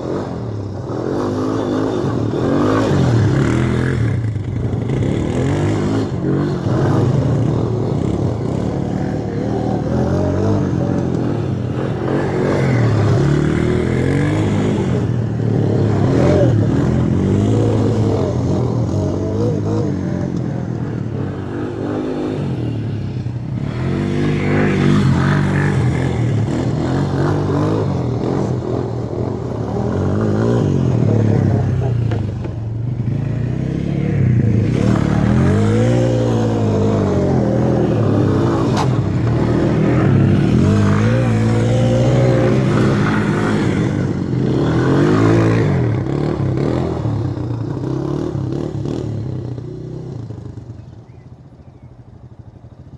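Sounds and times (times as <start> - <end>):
quad engine revving: 0.0 - 32.4, 33.1 - 50.6.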